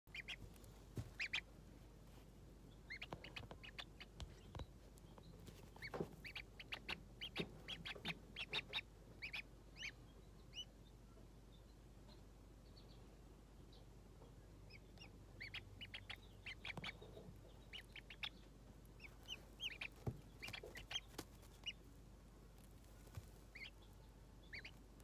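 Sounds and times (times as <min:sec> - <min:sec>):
ducklings peeping: 0:00.1 - 0:01.7, 0:02.6 - 0:25.0.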